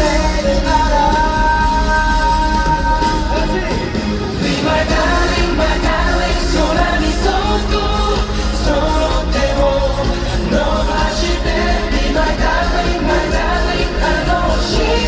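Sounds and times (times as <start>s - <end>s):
pop song over sound system: 0.0s - 15.0s.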